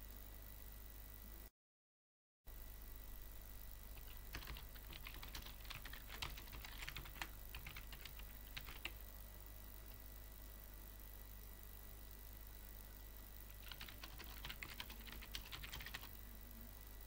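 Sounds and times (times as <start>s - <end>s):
low steady hum: 0.0s - 1.5s, 2.5s - 17.0s.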